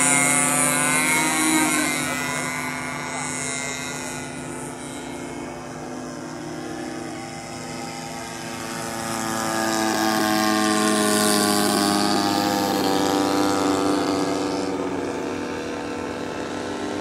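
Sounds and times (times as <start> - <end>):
model airplane engine buzzing: 0.0 - 17.0.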